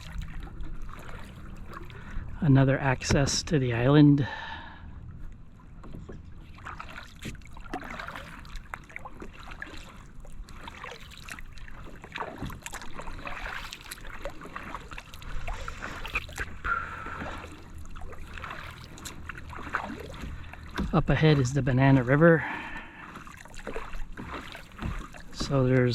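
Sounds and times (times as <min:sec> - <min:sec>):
small splashes and drips: 0:00.0 - 0:02.3, 0:05.8 - 0:25.9
paddle dipping into water: 0:00.0 - 0:03.4, 0:04.3 - 0:25.9.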